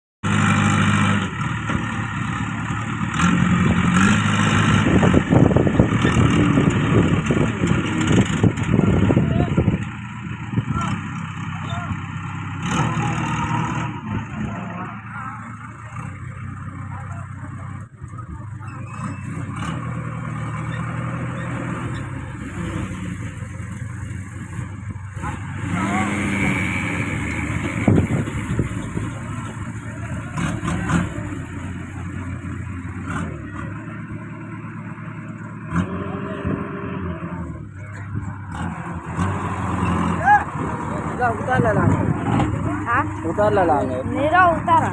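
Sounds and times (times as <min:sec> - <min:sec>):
heavy diesel engines revving: 0:00.2 - 0:44.9.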